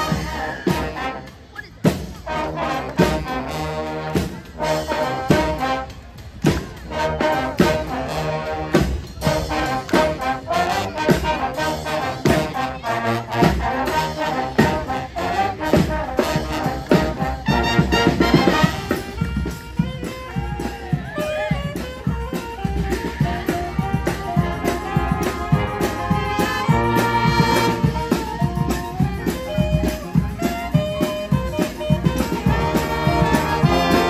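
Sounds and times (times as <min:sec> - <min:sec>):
brass band playing: 0:00.0 - 0:34.0
steady beat: 0:00.0 - 0:34.0.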